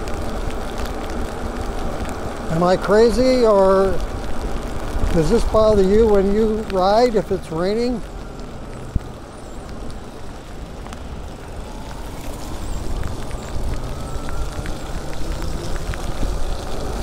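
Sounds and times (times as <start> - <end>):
raindrops tapping on camera: 0.0 - 17.0
tyres on wet pavement: 0.0 - 17.0.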